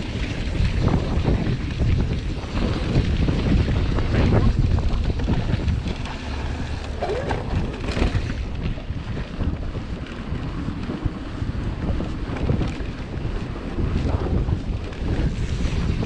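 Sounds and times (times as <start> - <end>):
bike tyres rumbling on gravel: 0.0 - 16.0
wind buffeting microphone: 0.0 - 16.0.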